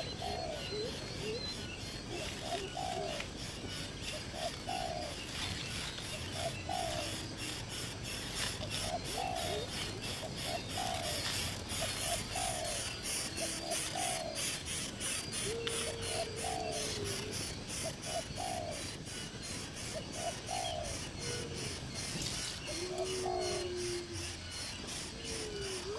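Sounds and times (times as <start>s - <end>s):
doves cooing: 0.0s - 25.9s.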